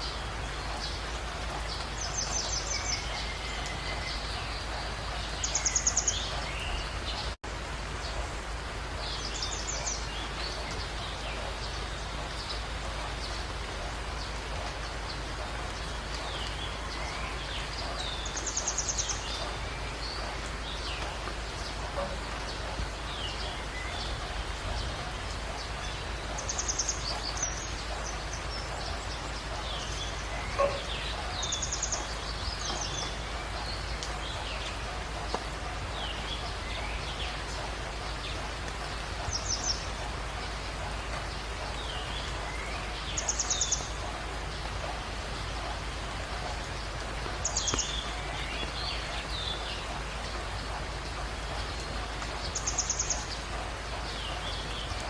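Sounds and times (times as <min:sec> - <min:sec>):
birds chirping: 0:00.0 - 0:55.0
steady background hiss: 0:00.0 - 0:55.0.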